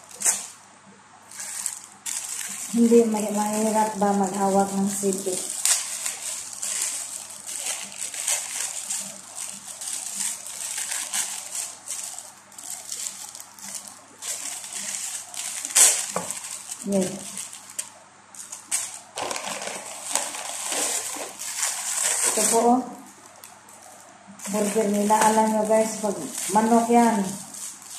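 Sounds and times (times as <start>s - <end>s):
plastic film rustling: 0.0s - 0.6s, 1.2s - 27.9s.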